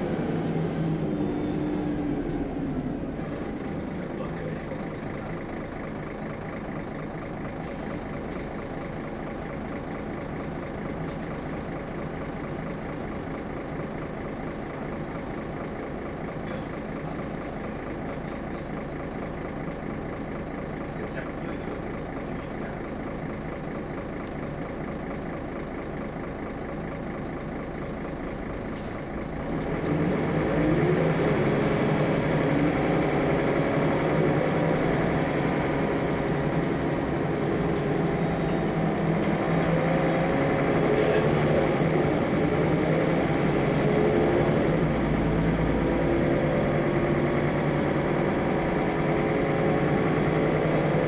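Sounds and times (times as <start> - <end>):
bus engine accelerating: 0.0 - 51.0.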